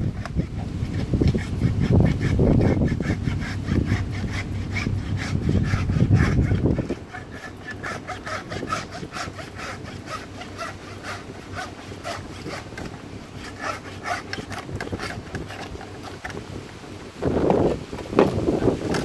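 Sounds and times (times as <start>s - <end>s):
knife rasping through hide: 0.0s - 16.5s, 17.5s - 19.0s.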